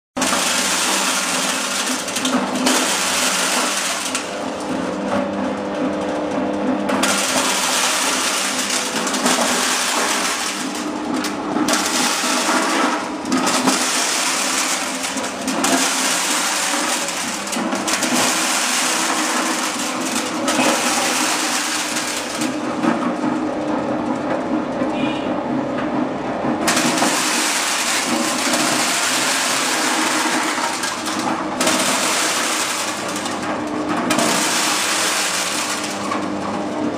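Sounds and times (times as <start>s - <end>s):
kernels rattling and crunching: 0.2s - 4.5s, 6.9s - 23.2s, 26.6s - 36.5s.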